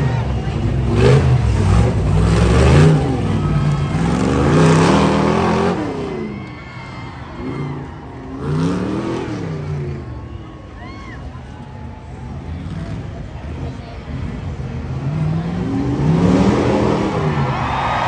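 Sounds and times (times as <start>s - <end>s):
truck engine revving: 0.0s - 6.5s, 7.4s - 10.2s, 12.3s - 17.8s.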